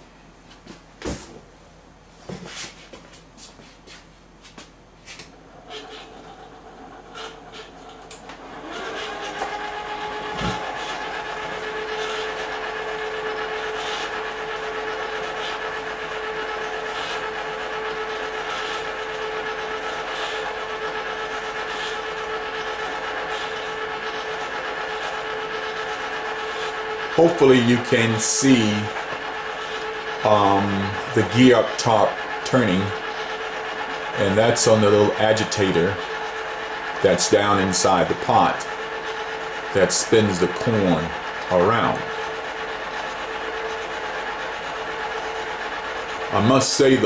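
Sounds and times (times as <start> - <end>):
popcorn machine motor whine: 5.0 - 47.0.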